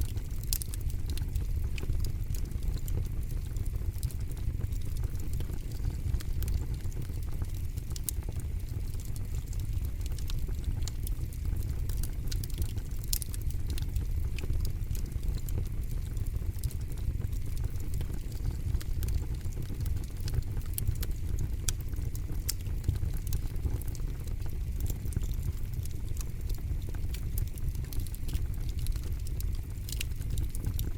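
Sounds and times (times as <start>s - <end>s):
burning wood crackling and popping: 0.0s - 30.9s
rumble of flames: 0.0s - 30.9s.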